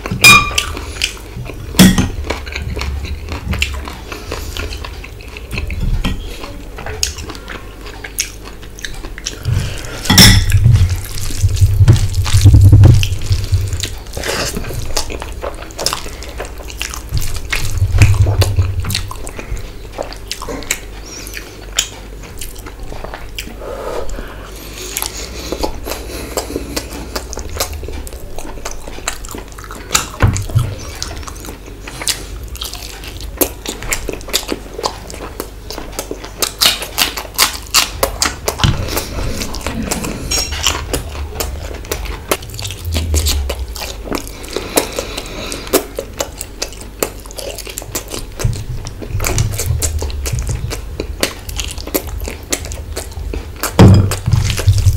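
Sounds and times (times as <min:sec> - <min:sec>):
man chewing food: 0:00.0 - 0:54.9.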